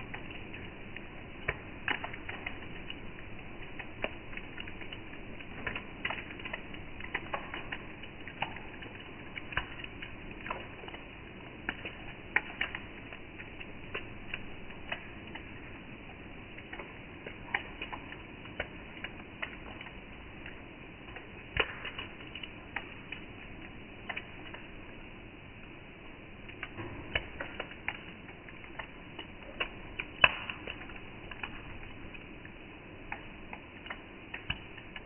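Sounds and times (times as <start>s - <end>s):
rain hissing: 0.0s - 35.0s.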